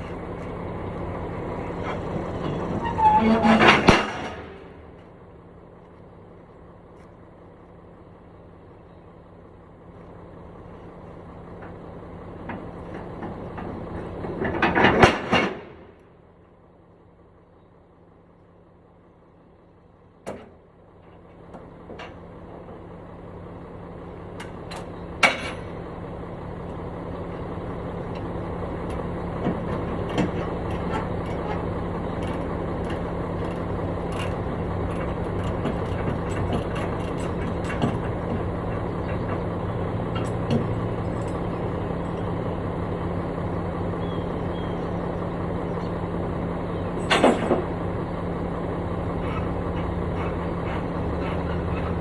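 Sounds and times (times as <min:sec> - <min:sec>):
construction machine engine running: 0:00.0 - 0:52.0.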